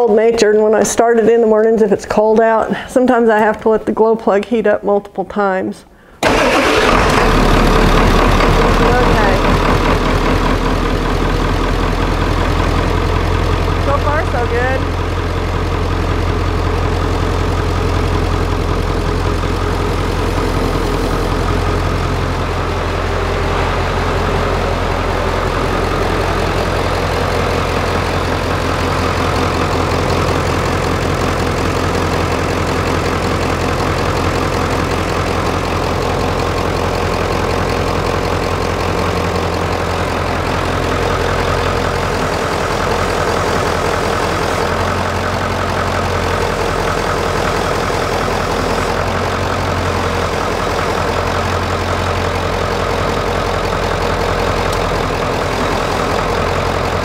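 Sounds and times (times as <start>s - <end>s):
diesel engine idling: 6.2s - 57.0s.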